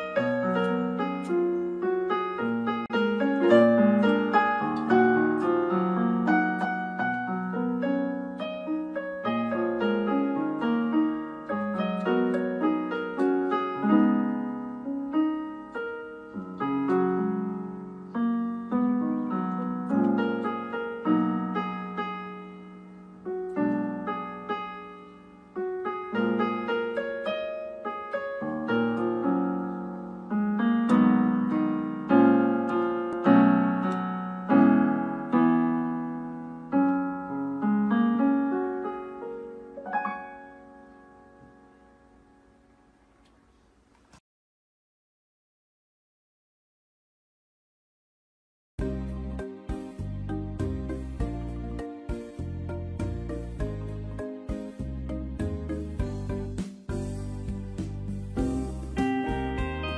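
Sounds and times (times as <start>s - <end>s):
slow piano music: 0.0s - 43.9s, 48.8s - 59.9s.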